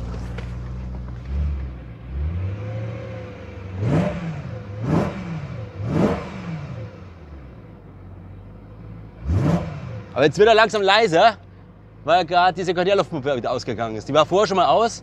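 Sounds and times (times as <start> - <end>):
car engine idling: 0.0 - 15.0
engine throttle blips: 0.0 - 15.0.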